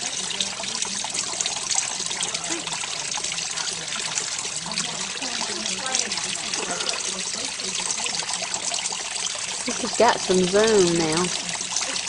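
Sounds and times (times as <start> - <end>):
fountain water trickling and splashing: 0.0 - 12.0.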